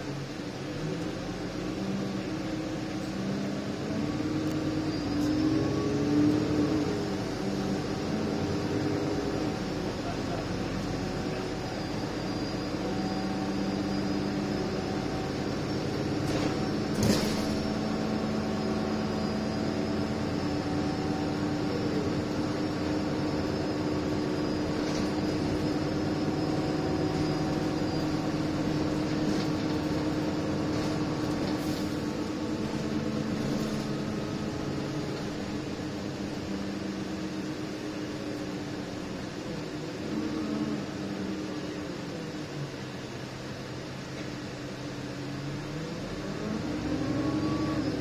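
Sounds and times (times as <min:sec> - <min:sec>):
bus engine hum: 0:00.0 - 0:48.0
faint high whine: 0:00.1 - 0:48.0.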